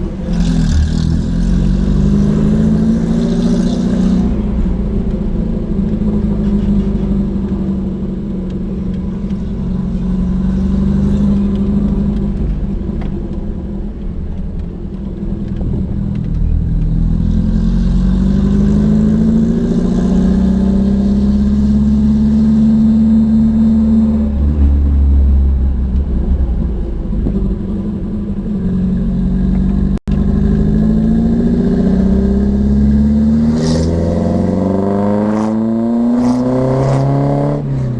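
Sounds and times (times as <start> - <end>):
car engine and exhaust driving: 0.0 - 37.9.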